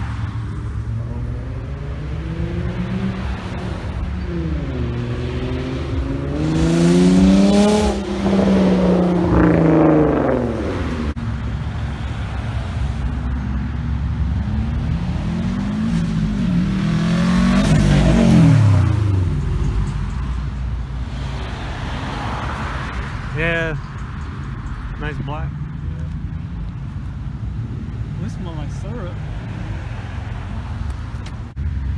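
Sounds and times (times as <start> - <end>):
car engines revving past: 0.0 - 31.9.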